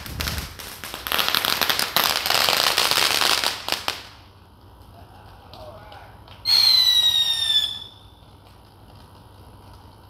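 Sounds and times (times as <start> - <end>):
firecrackers crackling: 0.0 - 10.0.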